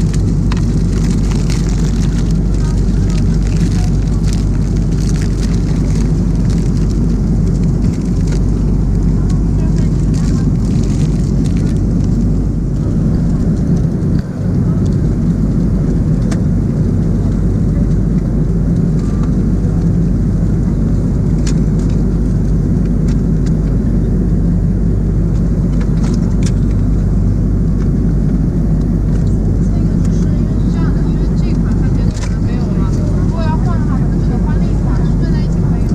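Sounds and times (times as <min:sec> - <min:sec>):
airplane cabin drone: 0:00.0 - 0:35.9.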